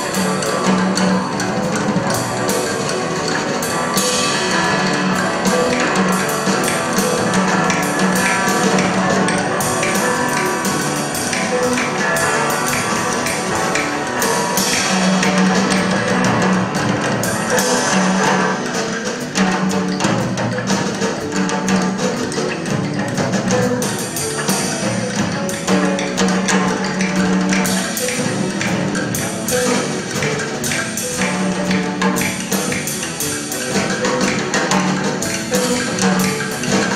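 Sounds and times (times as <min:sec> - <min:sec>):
live band playing: 0:00.0 - 0:36.9
sharp percussive hits: 0:00.0 - 0:36.9.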